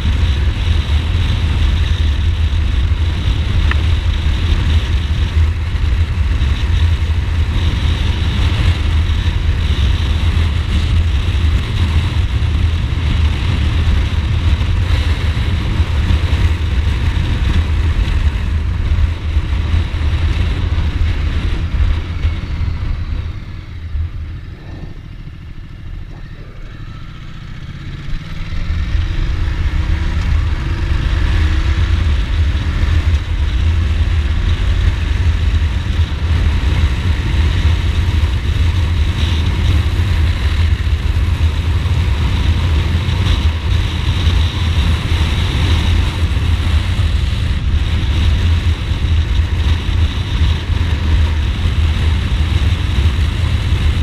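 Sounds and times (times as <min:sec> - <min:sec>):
motorcycle accelerating: 0:00.0 - 0:54.0
wind rumble on microphone: 0:00.0 - 0:54.0.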